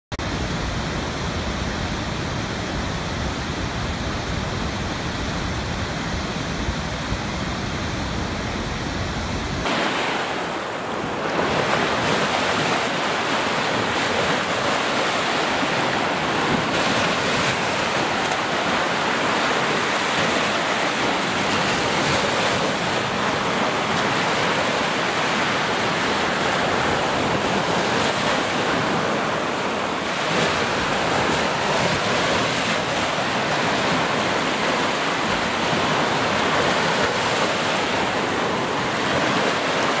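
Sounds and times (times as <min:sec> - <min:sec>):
waterfall rushing: 0:00.2 - 0:40.0
waves breaking on sandy shore: 0:00.2 - 0:40.0.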